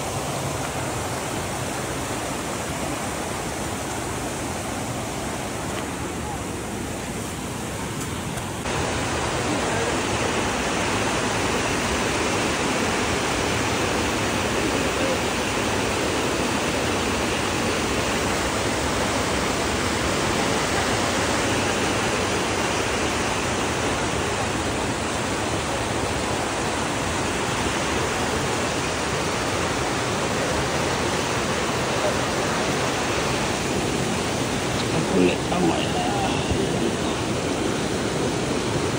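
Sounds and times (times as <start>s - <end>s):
river rapids rushing over boulders: 0.0s - 38.9s.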